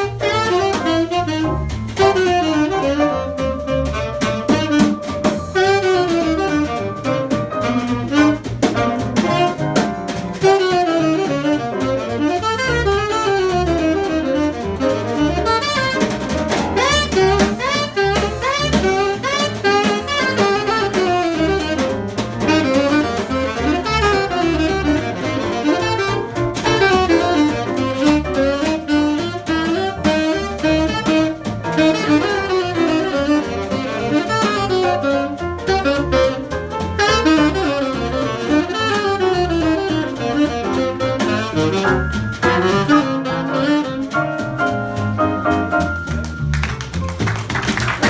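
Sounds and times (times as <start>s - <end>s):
saxophone solo: 0.0s - 46.3s
jazz combo backing: 0.0s - 48.0s.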